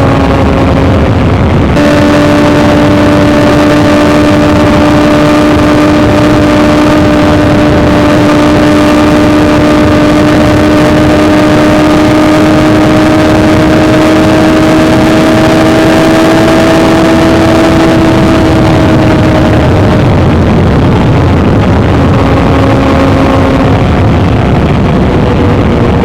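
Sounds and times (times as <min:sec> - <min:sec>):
motorcycle engine while riding: 0:00.0 - 0:26.0
steady rushing noise: 0:00.0 - 0:26.0.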